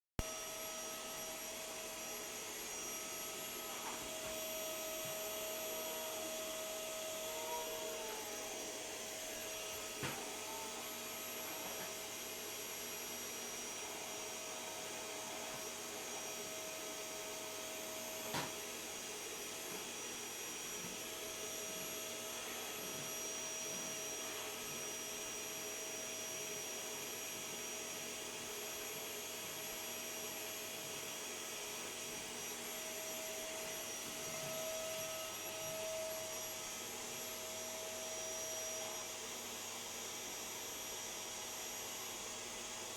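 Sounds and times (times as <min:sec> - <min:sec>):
vacuum cleaner running: 0:00.2 - 0:42.9.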